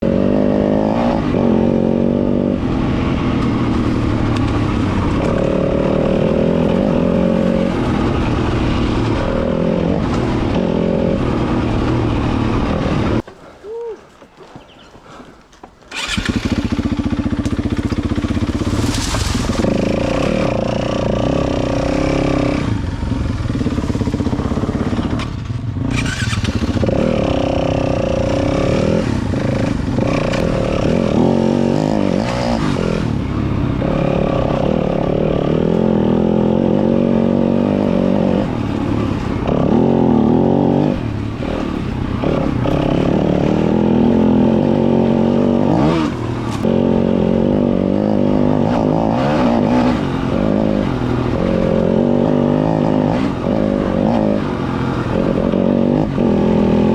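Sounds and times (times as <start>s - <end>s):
dirt bike engine revving: 0.0s - 13.2s, 15.9s - 56.9s.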